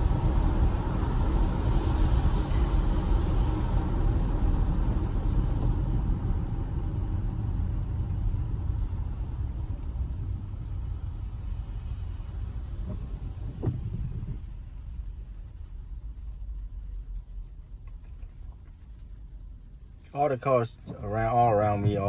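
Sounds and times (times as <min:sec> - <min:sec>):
tyres rumbling on wet road: 0:00.0 - 0:22.0.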